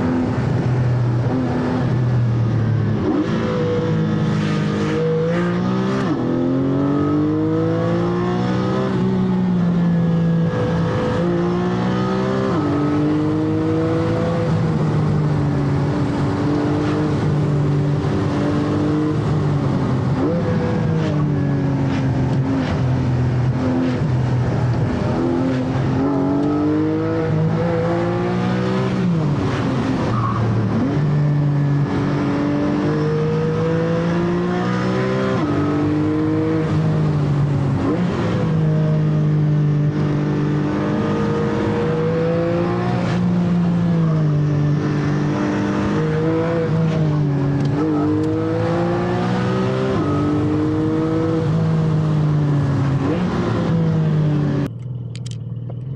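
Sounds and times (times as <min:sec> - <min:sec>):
car engine revving through gears: 0:00.0 - 0:55.9.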